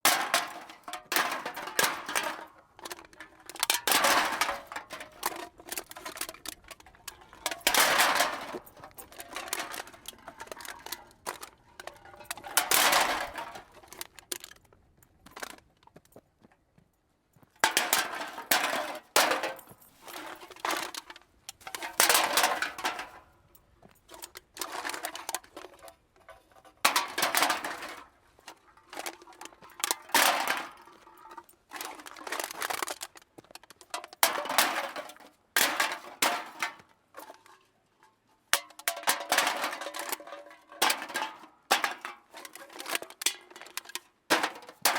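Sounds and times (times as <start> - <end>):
cans clattering into a cart: 0.0 - 14.5, 17.6 - 23.3, 24.1 - 37.6, 38.6 - 44.9.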